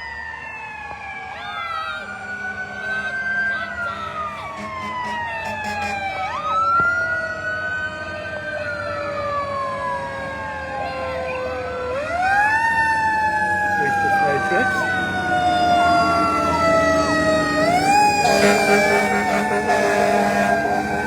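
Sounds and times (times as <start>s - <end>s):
fire truck sirens wailing: 0.0s - 21.0s.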